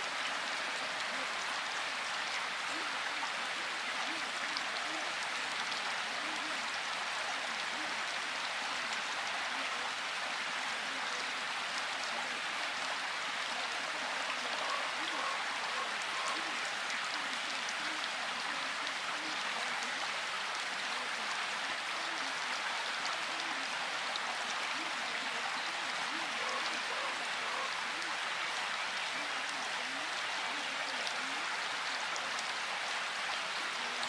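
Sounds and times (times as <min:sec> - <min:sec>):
steady rain falling: 0:00.0 - 0:34.0
faint voice murmuring: 0:00.1 - 0:34.0.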